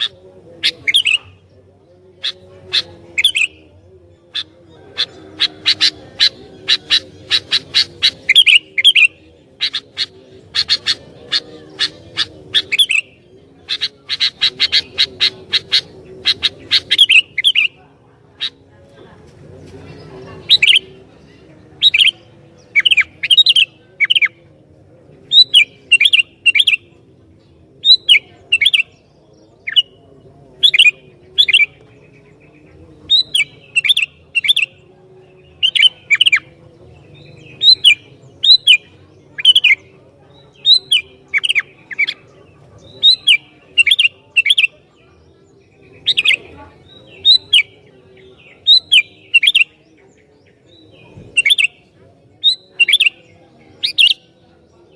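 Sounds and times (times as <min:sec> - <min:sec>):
bulbul singing: 0:00.0 - 0:54.9.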